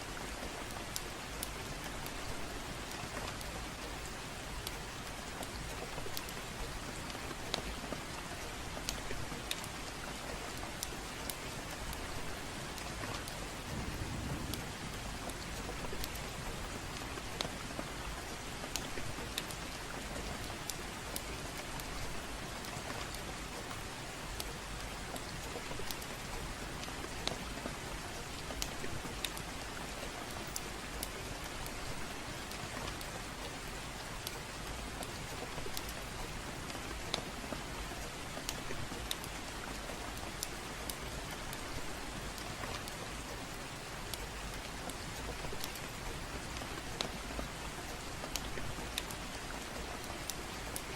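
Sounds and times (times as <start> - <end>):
gentle rain: 0.0 - 50.9
fireplace crackling: 0.1 - 50.9.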